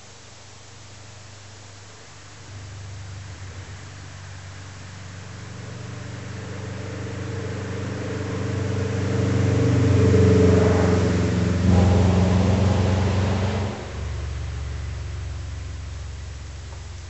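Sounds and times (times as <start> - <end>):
car driving past: 2.5 - 16.6.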